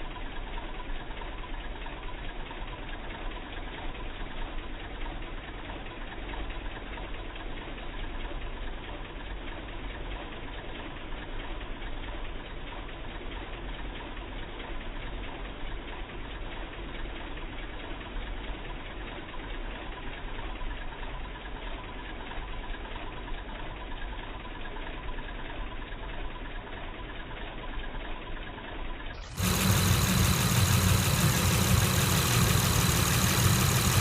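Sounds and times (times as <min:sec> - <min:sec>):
car engine idling roughly: 0:00.0 - 0:34.0.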